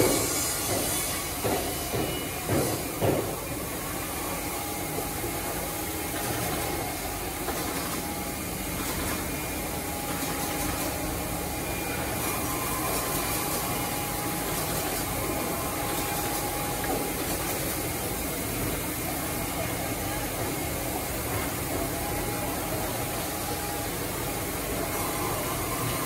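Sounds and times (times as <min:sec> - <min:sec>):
saw machine hum and hiss: 0:00.0 - 0:26.0.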